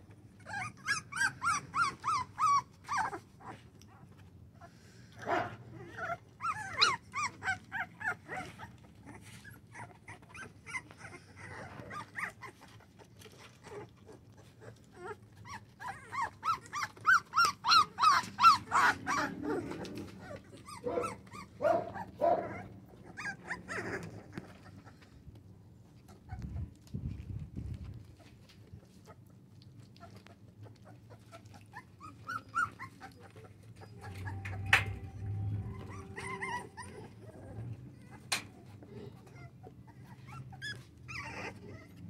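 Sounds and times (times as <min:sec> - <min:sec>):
puppies whining and crying: 0:00.0 - 0:27.2, 0:27.9 - 0:42.0.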